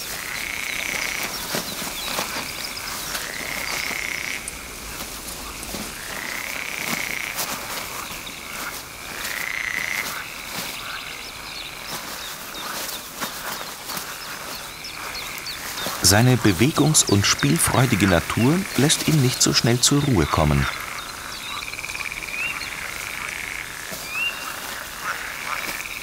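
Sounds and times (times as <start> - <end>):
frogs trilling: 0.0 - 26.0
rustling in dry grass: 0.0 - 26.0.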